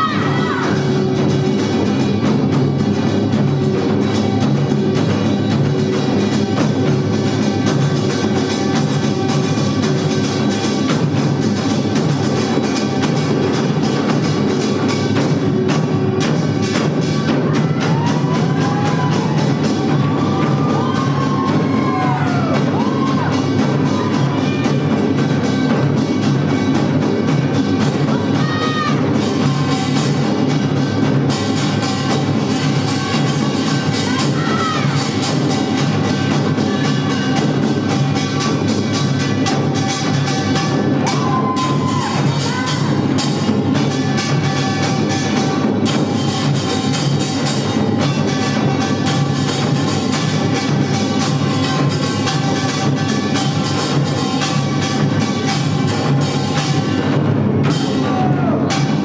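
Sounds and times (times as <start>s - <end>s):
percussion ensemble of gongs and drums: 0.0s - 59.0s.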